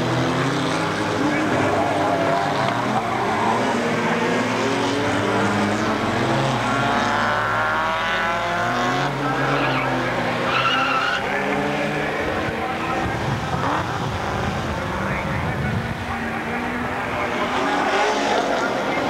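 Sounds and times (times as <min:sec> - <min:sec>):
race car engines racing past: 0:00.0 - 0:19.0.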